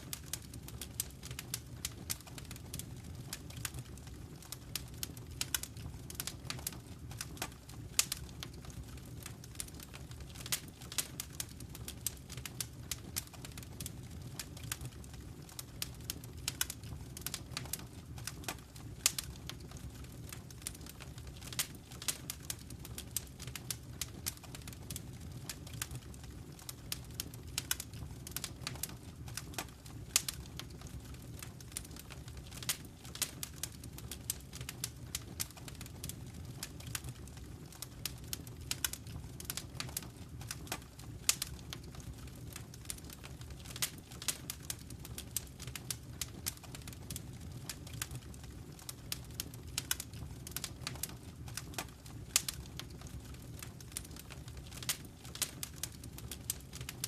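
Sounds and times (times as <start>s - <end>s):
low rumble of burning fire: 0.0s - 57.0s
wood fire crackling and popping: 0.0s - 57.0s.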